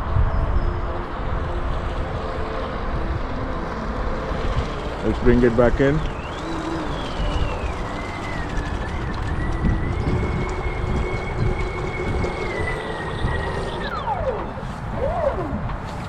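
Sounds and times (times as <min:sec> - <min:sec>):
wind and water noise: 0:00.0 - 0:16.0
boat electric motor whining: 0:01.2 - 0:16.0.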